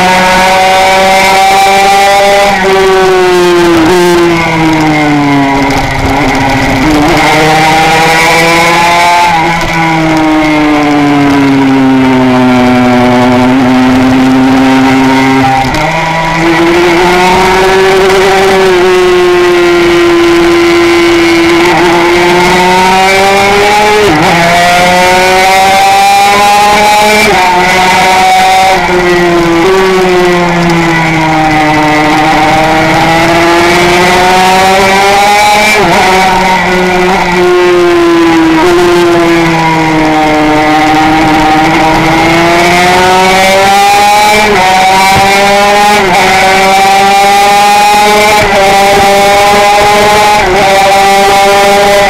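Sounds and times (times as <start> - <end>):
two-stroke motorcycle engine: 0.0 - 52.0.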